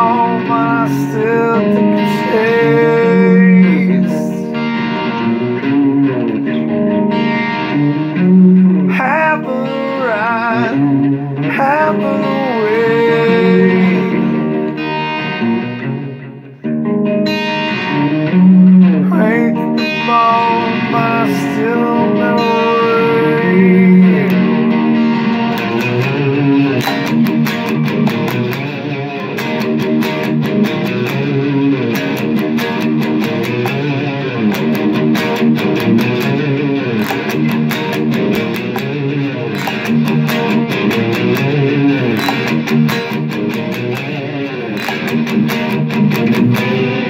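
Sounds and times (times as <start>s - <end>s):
electric guitar riff: 0.0s - 47.0s.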